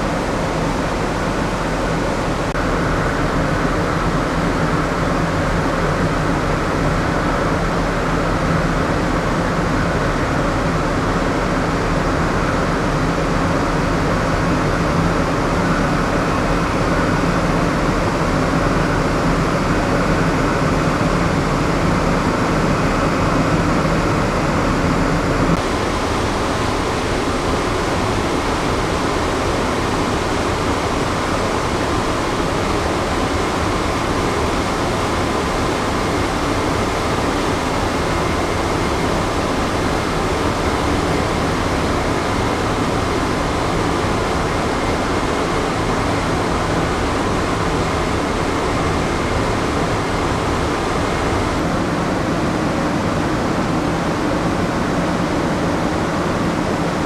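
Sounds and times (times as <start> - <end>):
ship machinery and ventilation hum: 0.0 - 57.0.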